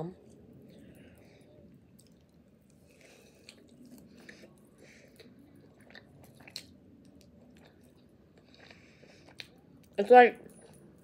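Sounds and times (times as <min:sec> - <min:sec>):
close chewing: 0:00.5 - 0:10.0.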